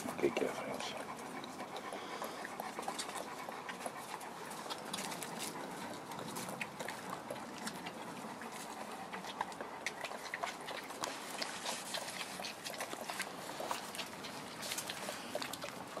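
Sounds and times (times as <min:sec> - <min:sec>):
dog panting: 0:00.0 - 0:16.0
puppies suckling wet smacking: 0:00.0 - 0:16.0.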